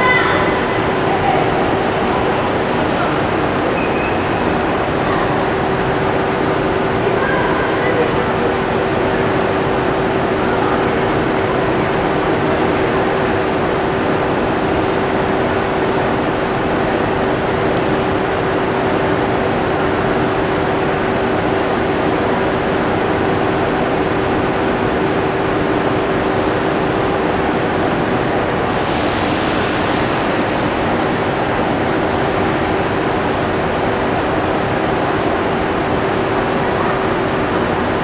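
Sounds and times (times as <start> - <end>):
train equipment drone: 0.0 - 38.0.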